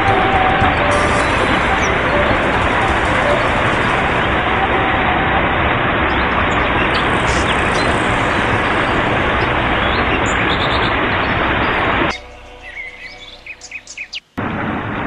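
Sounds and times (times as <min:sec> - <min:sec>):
stream rushing over boulders: 0:00.0 - 0:13.1.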